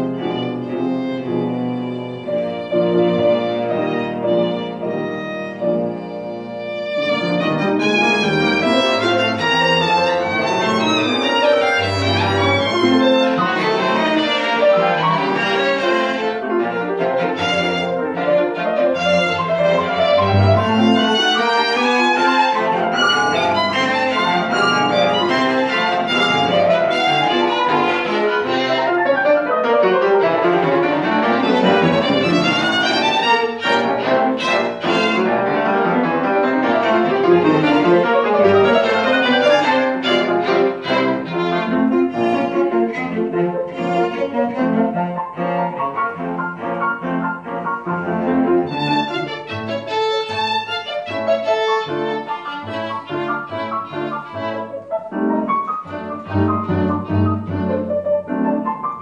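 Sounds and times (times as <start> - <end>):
violin cello and piano chamber music: 0.0 - 59.0.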